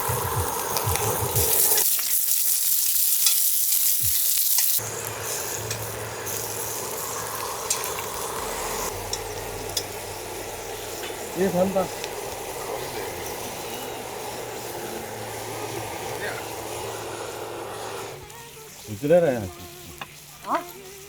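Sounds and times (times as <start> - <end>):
food sizzling in hot fat: 0.0 - 21.0.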